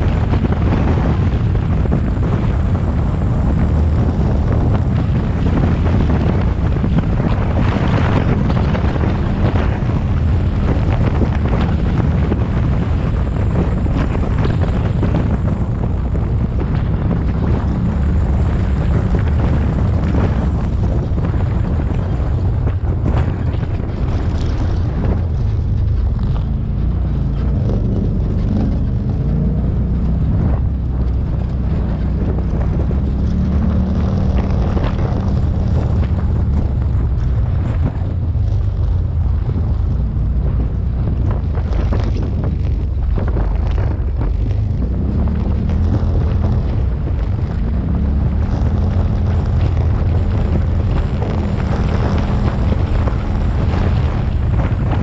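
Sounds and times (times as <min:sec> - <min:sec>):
off-road vehicle engine: 0:00.0 - 0:55.0
wind rumbling on microphone: 0:00.0 - 0:55.0.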